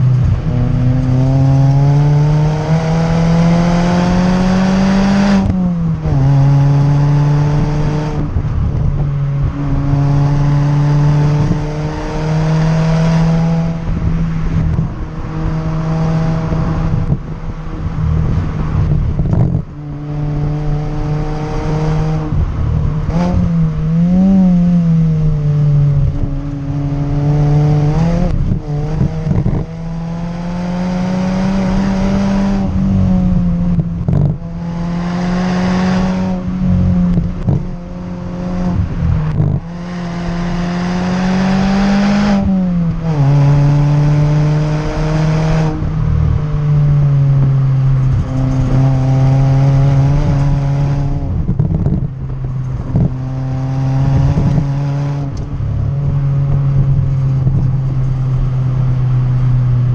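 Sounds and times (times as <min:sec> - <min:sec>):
car engine revving: 0:00.0 - 0:59.9
exhaust rushing on deceleration: 0:00.0 - 0:59.9.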